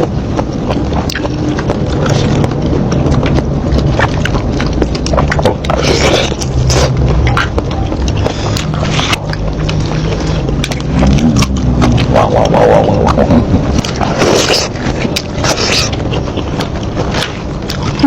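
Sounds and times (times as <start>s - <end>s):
steady low hum: 0.0s - 18.0s
wet chewing and smacking: 0.0s - 18.0s.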